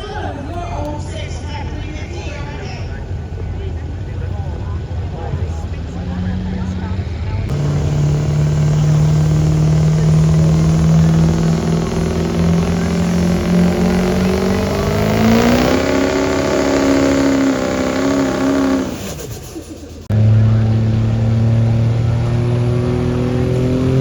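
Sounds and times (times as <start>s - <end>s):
truck engine running under load: 2.9s - 24.0s.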